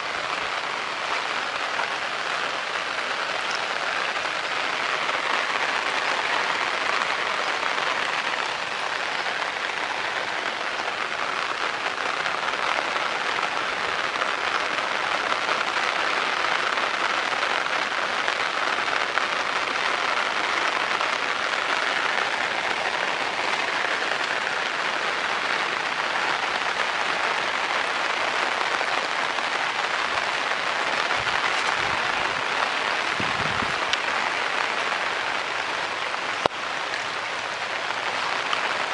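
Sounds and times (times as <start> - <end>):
water rushing down bamboo channel: 0.0 - 38.9.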